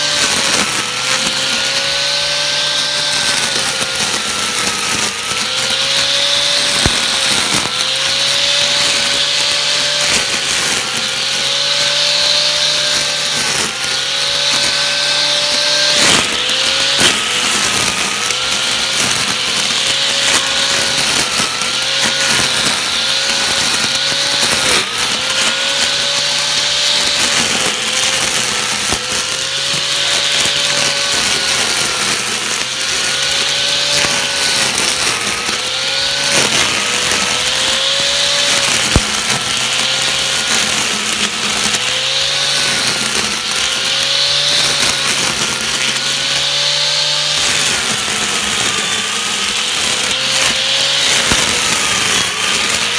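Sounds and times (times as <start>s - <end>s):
electric string trimmer whining: 0.0s - 52.9s.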